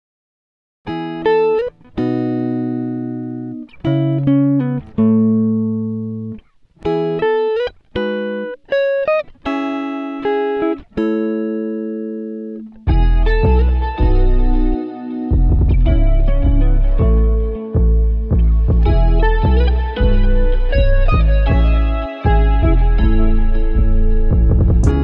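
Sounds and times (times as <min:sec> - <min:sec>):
slow guitar melody: 0:00.9 - 0:25.0.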